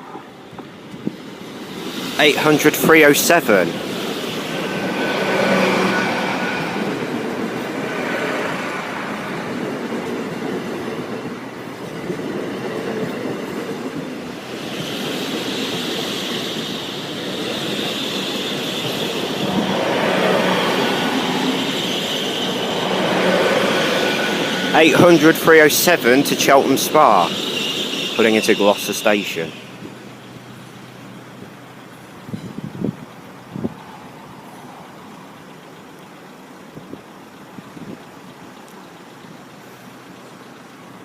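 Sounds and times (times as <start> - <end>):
train diesel engine: 0.0 - 41.0
train wheels on rails: 0.0 - 41.0.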